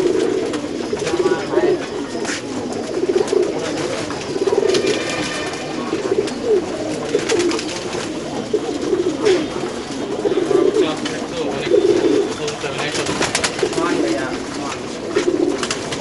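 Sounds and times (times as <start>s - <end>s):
pigeons cooing: 0.0s - 16.0s
wings fluttering: 2.2s - 11.2s, 11.8s - 16.0s.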